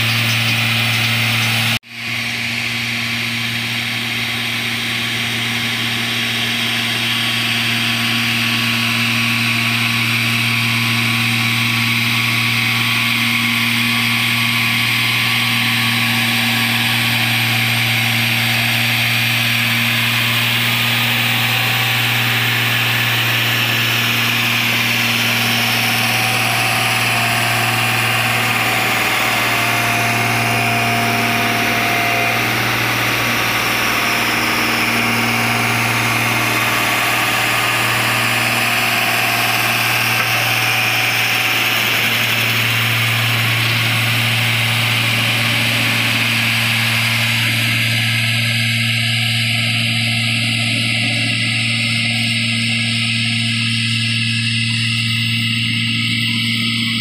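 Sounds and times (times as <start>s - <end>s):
road roller diesel engine: 0.0s - 57.0s.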